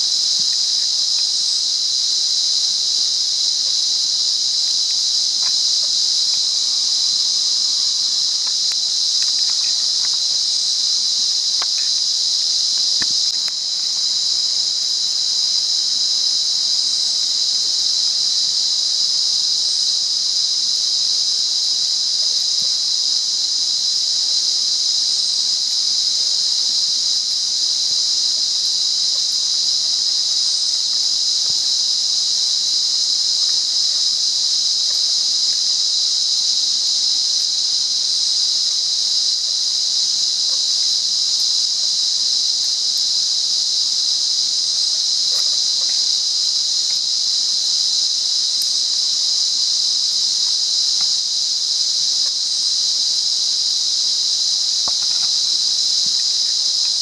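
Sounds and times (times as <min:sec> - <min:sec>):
cicada buzzing: 0:00.0 - 0:19.0, 0:22.3 - 0:35.1, 0:35.8 - 0:57.0.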